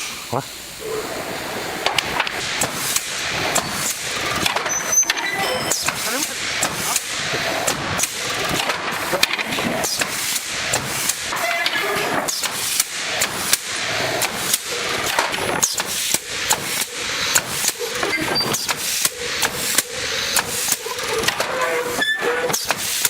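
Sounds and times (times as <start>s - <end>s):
machinery noise: 0.0s - 23.0s
nailing machine bangs: 1.8s - 23.0s.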